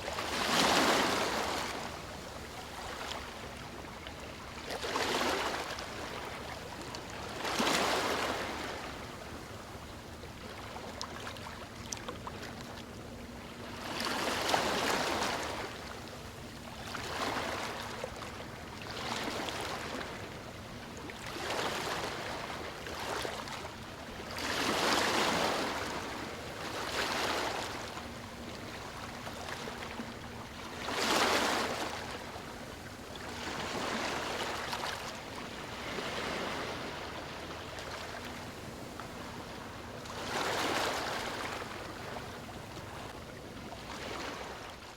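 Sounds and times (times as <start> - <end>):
ocean waves lapping on shore: 0.0 - 44.9.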